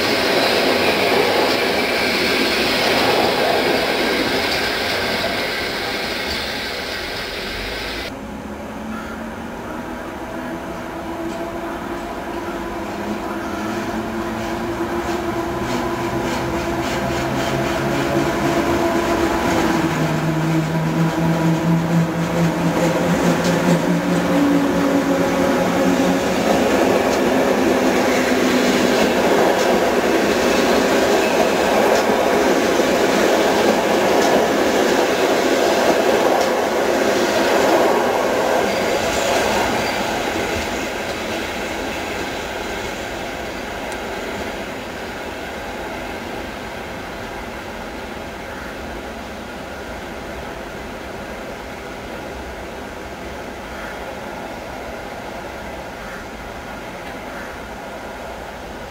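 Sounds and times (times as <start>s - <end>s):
train wheels rumbling and clacking: 0.0s - 8.2s, 11.1s - 53.5s
electric locomotive hum: 0.0s - 58.9s.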